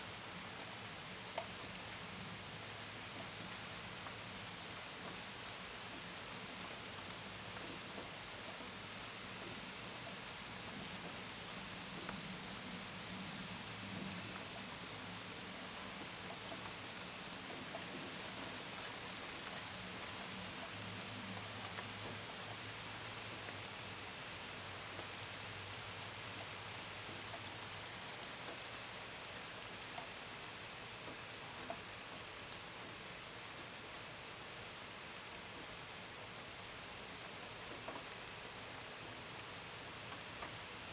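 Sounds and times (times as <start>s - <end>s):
steady rain: 0.0s - 40.9s
crickets chirping: 0.4s - 40.9s.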